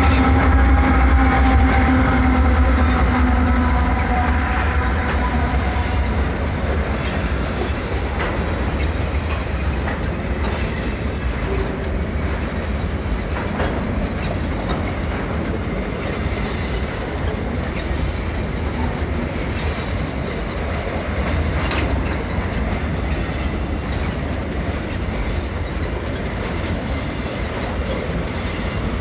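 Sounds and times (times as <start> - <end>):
freight train wheels rumbling: 0.0 - 29.0
clacks over rail joints: 4.8 - 29.0.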